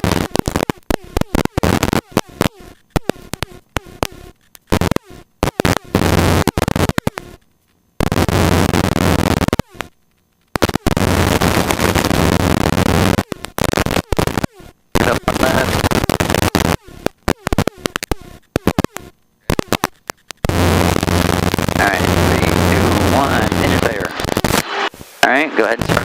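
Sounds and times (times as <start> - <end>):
harsh radio static bursts: 0.0 - 26.0.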